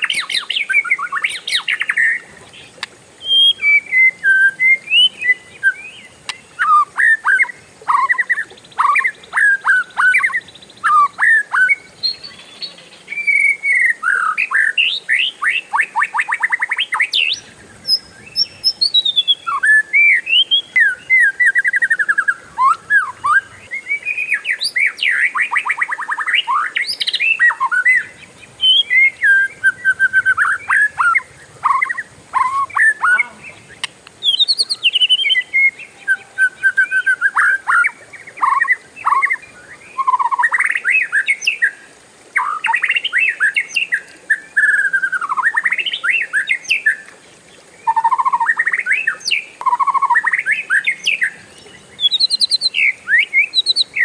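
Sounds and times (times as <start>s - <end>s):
bird singing whistles and trills: 0.0s - 41.8s, 42.4s - 47.1s, 47.8s - 54.0s.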